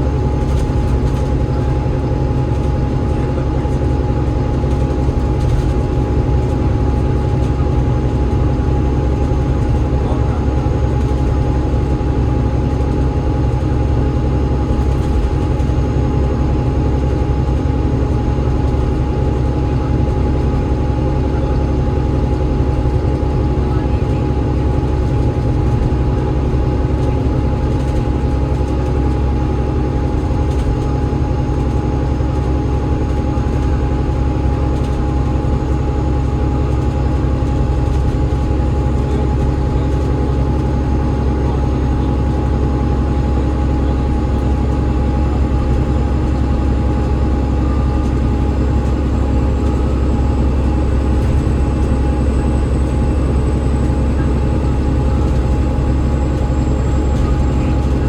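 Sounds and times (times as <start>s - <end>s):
bus engine low rumble: 0.0s - 58.0s.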